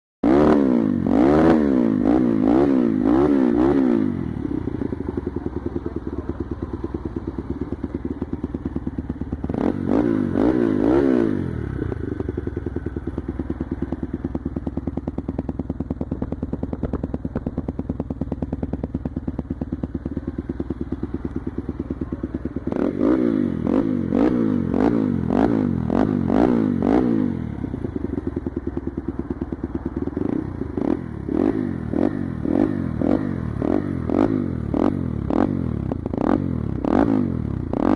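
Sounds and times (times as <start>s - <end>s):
motorcycle throttle blips: 0.2s - 37.9s
motorcycle engine idling: 0.4s - 37.9s.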